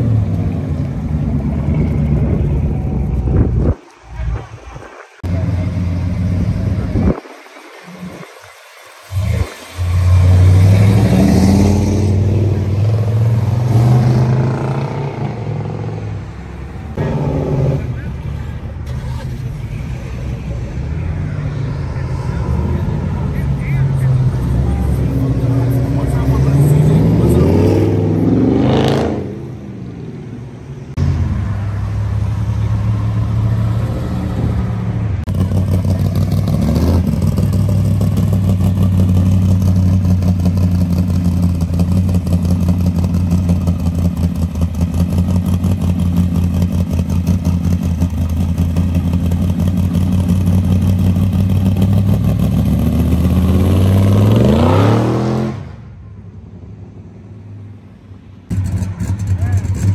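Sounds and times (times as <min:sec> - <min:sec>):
car driving away: 0:00.0 - 0:59.9
car engine idling and revving: 0:00.0 - 0:59.9.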